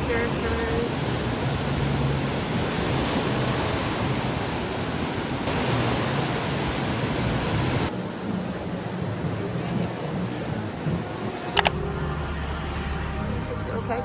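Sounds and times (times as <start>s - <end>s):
ocean surf breaking: 0.0s - 14.0s.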